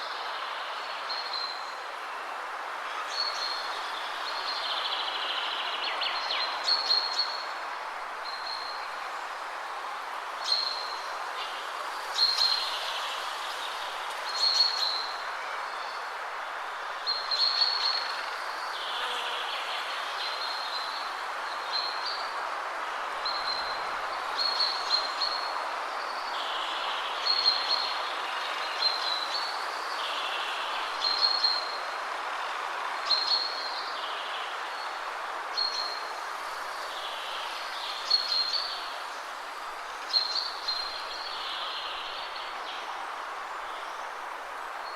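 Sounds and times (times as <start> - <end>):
wind rustling through trees: 0.0 - 44.9.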